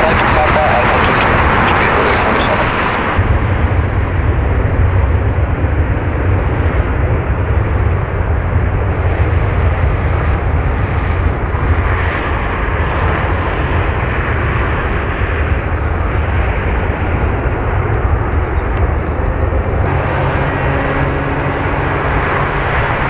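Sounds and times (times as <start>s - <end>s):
jet aircraft rumble and hiss: 0.0s - 23.0s.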